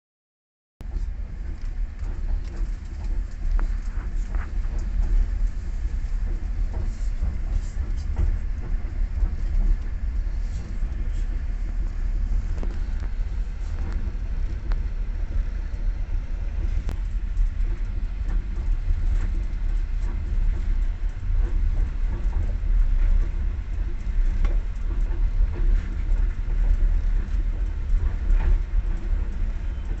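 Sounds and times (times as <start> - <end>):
train wheels rumbling on rails: 0.8 - 30.0.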